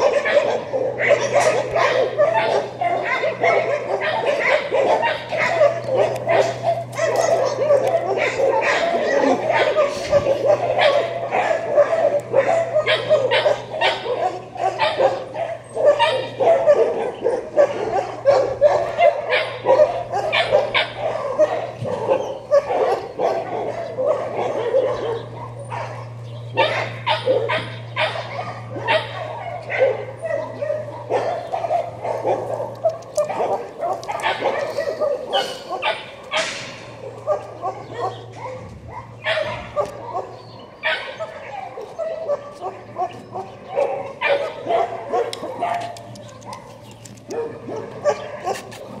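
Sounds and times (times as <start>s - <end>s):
dogs barking and yipping: 0.0s - 49.0s.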